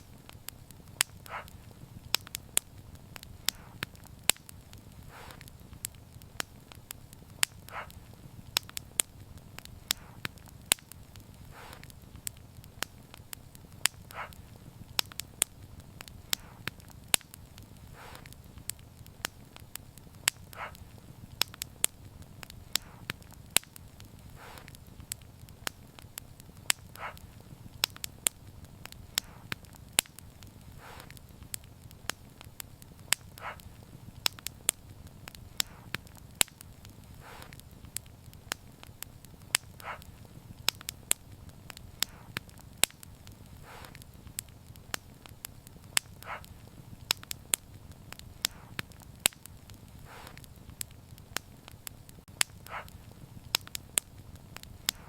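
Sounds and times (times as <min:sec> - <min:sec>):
low steady rumble: 0:00.0 - 0:55.0
wood fire crackling and popping: 0:00.0 - 0:55.0.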